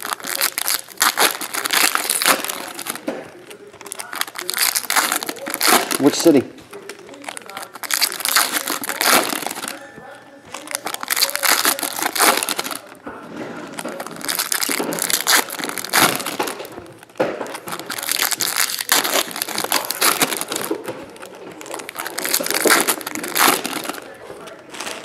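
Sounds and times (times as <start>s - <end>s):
foil wrappers crinkling: 0.0s - 25.0s.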